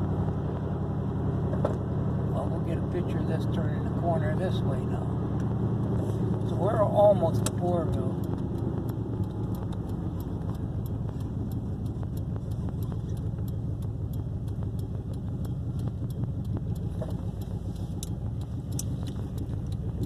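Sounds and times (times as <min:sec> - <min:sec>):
engine and road noise in cabin: 0:00.0 - 0:20.0
quick regular ticking: 0:02.7 - 0:20.0.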